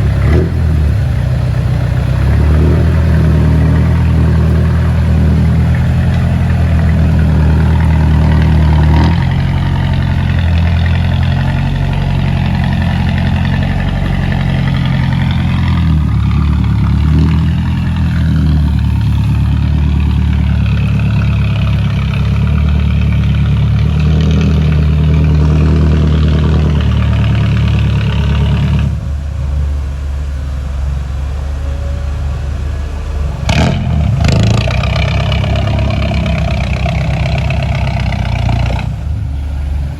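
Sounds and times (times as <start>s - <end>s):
heavy diesel engine running hard: 0.0s - 39.9s.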